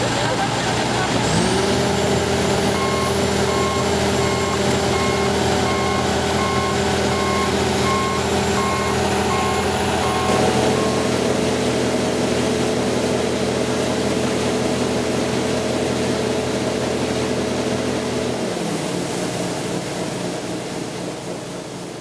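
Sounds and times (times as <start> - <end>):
large diesel engine running: 0.0 - 22.0.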